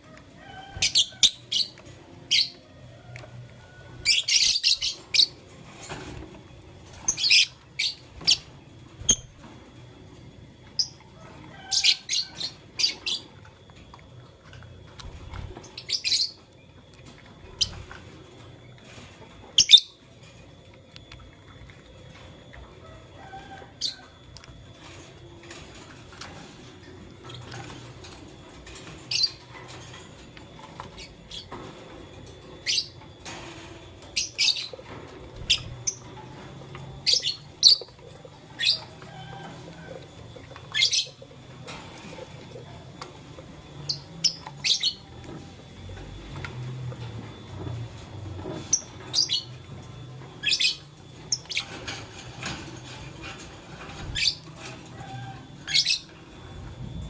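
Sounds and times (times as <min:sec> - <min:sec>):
birds chirping high-pitched: 0:00.0 - 0:57.0.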